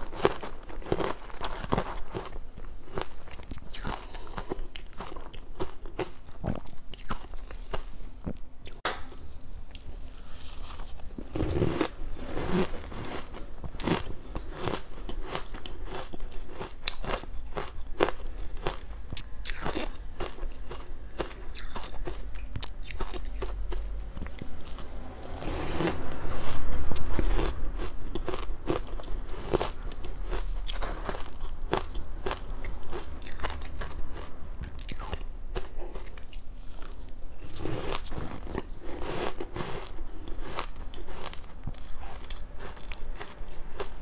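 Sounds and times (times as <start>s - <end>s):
crunching and chewing ice: 0.0s - 8.8s, 10.6s - 44.0s.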